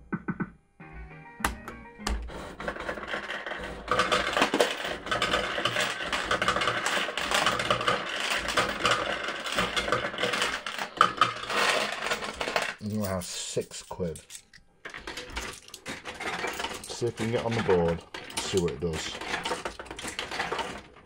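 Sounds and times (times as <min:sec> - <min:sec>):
coin hopper running: 0:02.1 - 0:21.0
coins clattering into tray: 0:02.6 - 0:21.0.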